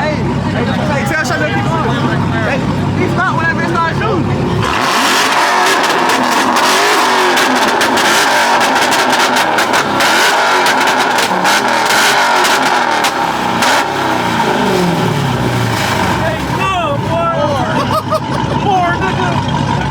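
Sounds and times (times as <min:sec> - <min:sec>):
car engine revving: 0:00.0 - 0:19.9
exhaust pops and crackles: 0:00.0 - 0:19.9.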